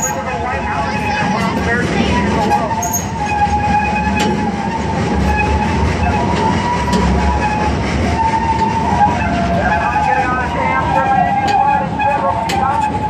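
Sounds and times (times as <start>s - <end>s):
train rumbling and rattling: 0.0s - 13.0s.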